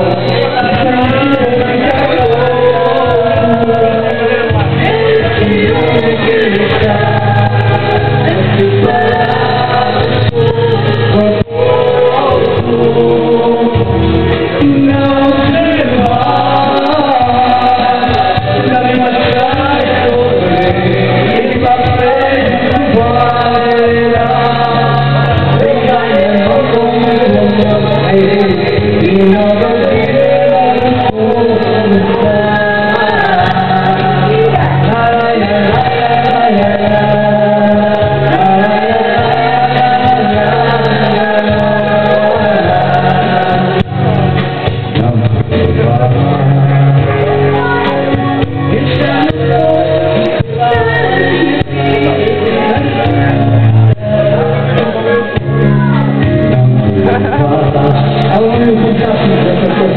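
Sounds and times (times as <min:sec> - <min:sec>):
instrumental accompaniment with bass: 0:00.0 - 0:59.9
man and woman singing: 0:00.0 - 0:59.9.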